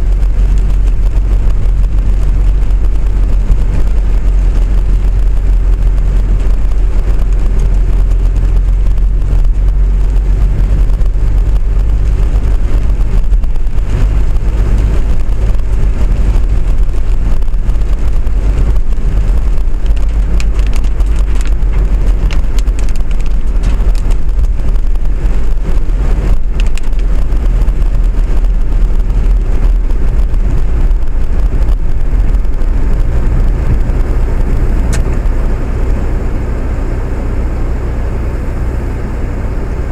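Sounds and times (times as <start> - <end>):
vehicle rumbling: 0.0 - 39.9.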